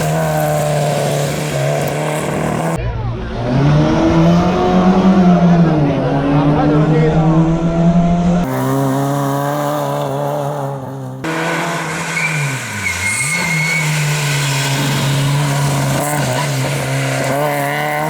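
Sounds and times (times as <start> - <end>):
rally car engines at high revs: 0.0 - 18.0.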